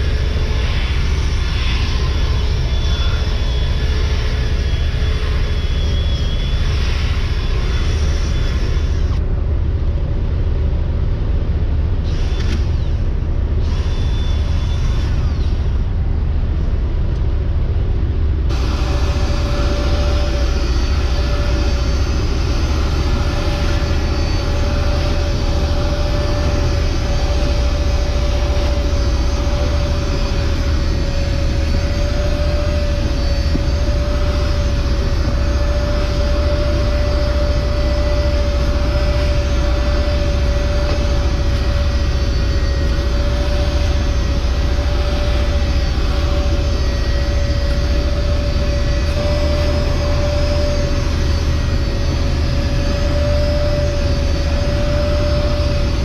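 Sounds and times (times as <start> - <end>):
drill brush whirring: 0.0 - 9.2, 12.0 - 16.0, 18.5 - 56.0
extractor tool hiss and whine: 0.0 - 56.0
low machine drone: 0.0 - 56.0.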